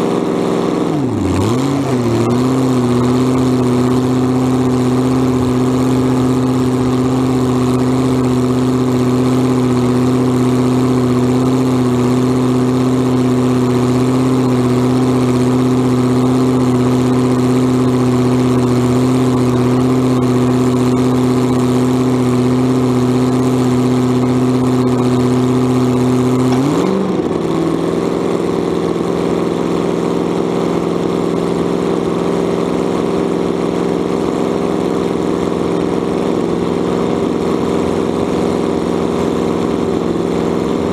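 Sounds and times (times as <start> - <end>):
dragster engine idling: 0.0 - 40.9.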